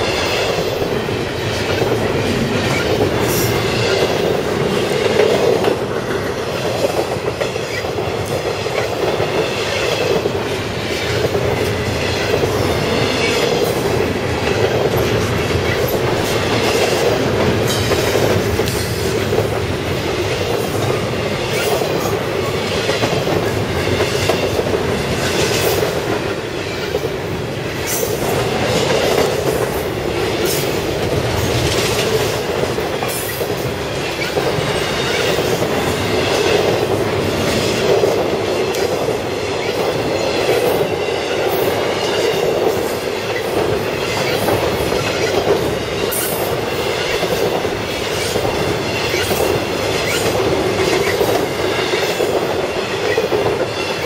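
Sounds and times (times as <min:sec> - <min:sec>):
train wheels rumbling on rail: 0:00.0 - 0:54.0
wheels clacking over rail joints: 0:00.0 - 0:54.0.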